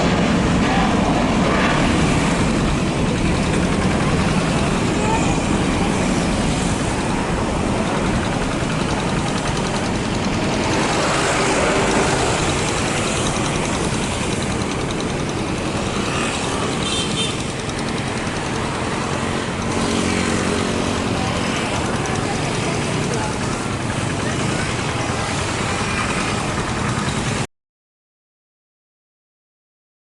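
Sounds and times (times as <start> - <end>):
engine noise with rushing hiss: 0.0 - 27.5.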